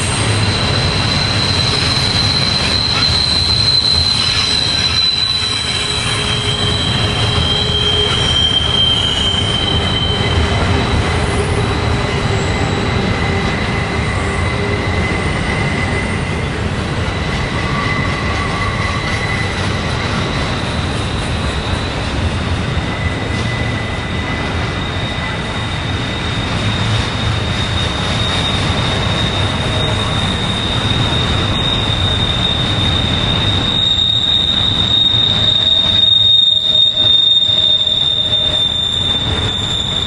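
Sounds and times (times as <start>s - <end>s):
high wheel squeal: 0.0s - 40.0s
wheels rumbling on rails: 0.0s - 40.0s.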